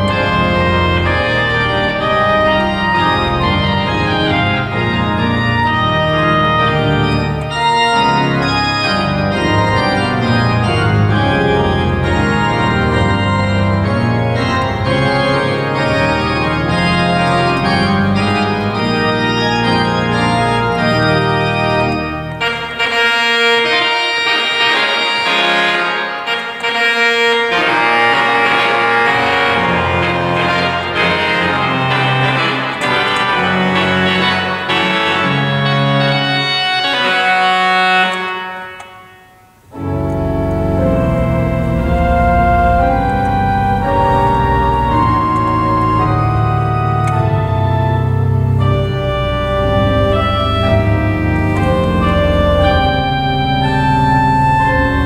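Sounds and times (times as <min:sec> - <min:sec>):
deep organ bass notes: 0:00.0 - 0:26.0, 0:27.2 - 0:38.1, 0:39.5 - 0:55.0
organ reed chords: 0:00.0 - 0:55.0.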